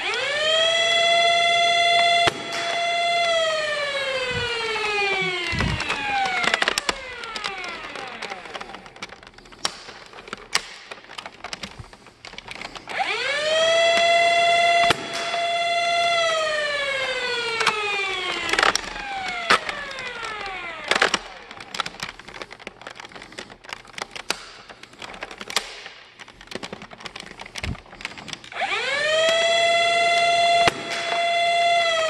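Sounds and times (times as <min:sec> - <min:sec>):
flywheel motors whining: 0:00.0 - 0:32.0
toy blaster clicks and knocks: 0:00.0 - 0:32.0.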